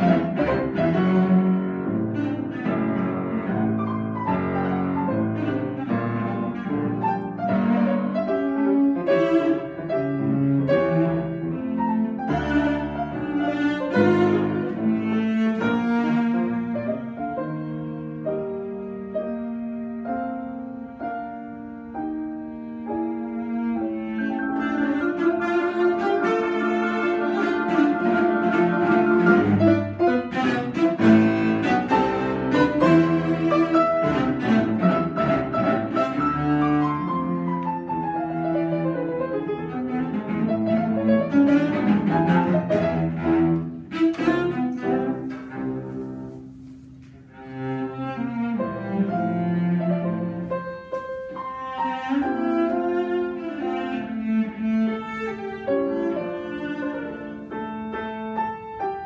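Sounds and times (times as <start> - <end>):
bowed cello: 0.0 - 59.0
grand piano: 0.0 - 59.0.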